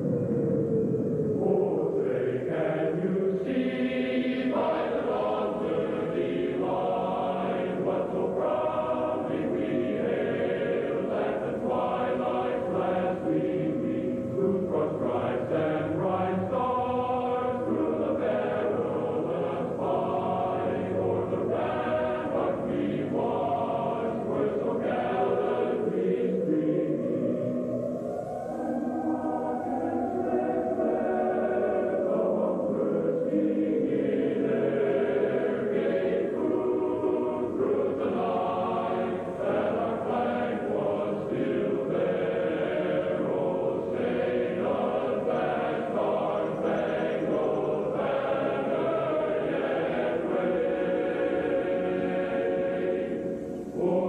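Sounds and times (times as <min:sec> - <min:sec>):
choir singing held notes: 0:00.0 - 0:54.0.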